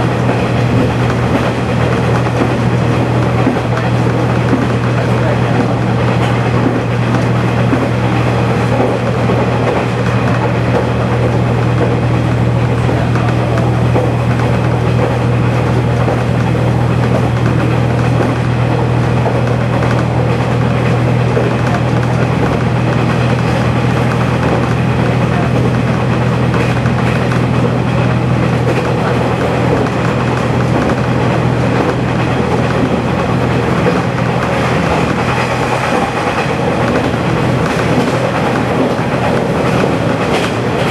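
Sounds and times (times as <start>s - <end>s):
diesel engine humming: 0.0s - 40.9s
wheels rumbling on rail: 0.0s - 40.9s.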